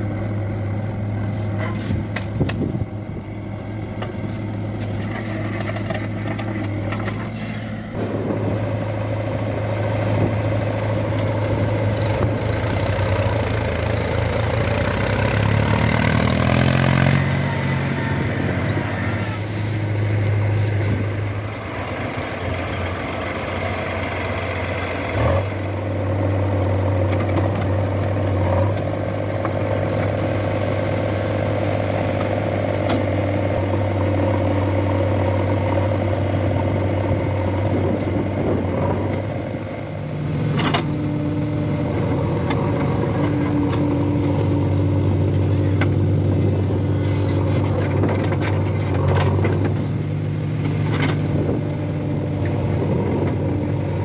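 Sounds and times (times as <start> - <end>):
diesel engines running: 0.0 - 54.0
engine revving under load: 0.6 - 54.0.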